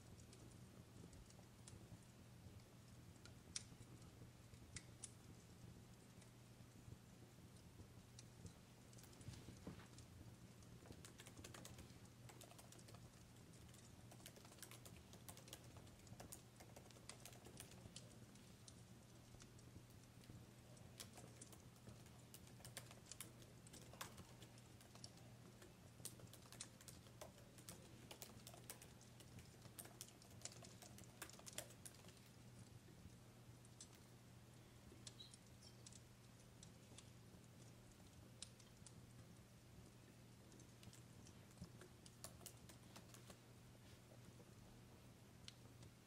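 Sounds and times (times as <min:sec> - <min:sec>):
faint sharp clicks and crackles: 0:00.0 - 0:46.0
low steady hum: 0:00.0 - 0:46.0.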